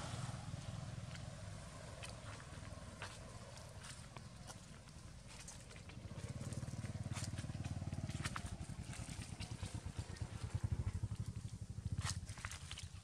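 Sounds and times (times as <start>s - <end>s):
vehicle engine rumble passing: 0.0s - 13.0s.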